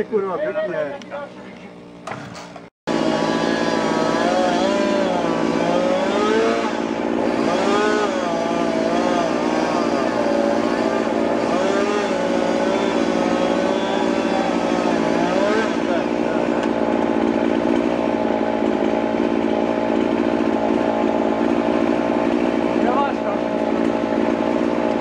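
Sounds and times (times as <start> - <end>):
chainsaw cutting wood: 2.0 - 25.0.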